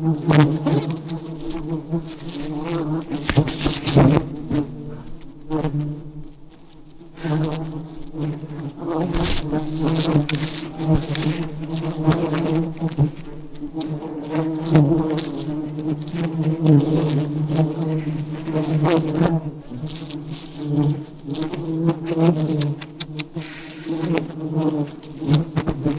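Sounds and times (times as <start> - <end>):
bees buzzing: 0.0 - 25.9.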